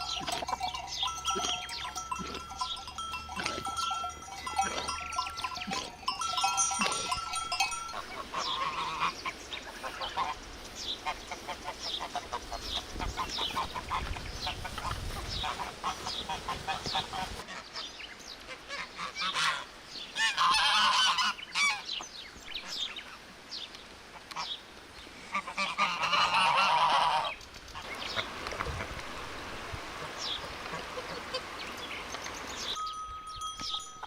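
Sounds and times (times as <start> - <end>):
farmyard birds calling: 0.0 - 34.0.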